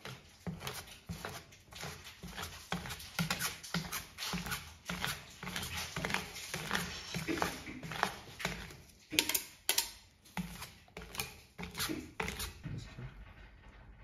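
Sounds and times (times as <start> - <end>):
metal spatula tapping and scraping: 0.0 - 12.8.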